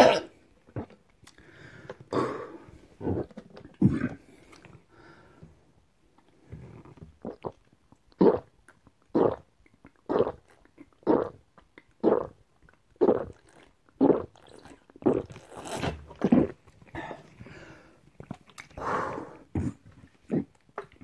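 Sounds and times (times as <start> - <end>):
person gulping juice: 0.0 - 4.9, 6.2 - 17.5, 18.1 - 18.8, 19.5 - 21.0.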